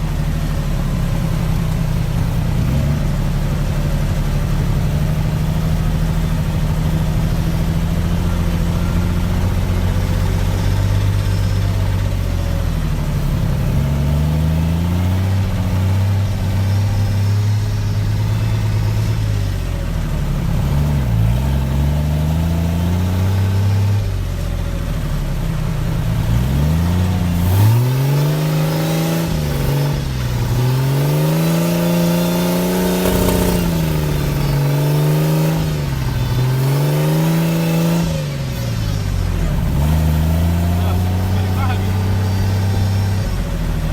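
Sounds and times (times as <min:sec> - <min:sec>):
engine running and revving: 0:00.0 - 0:43.9.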